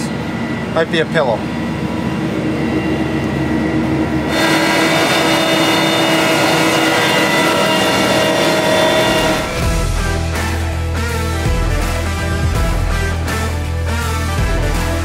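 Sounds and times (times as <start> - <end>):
sprayer engine running: 0.0 - 13.4
mechanical whine: 0.0 - 15.0.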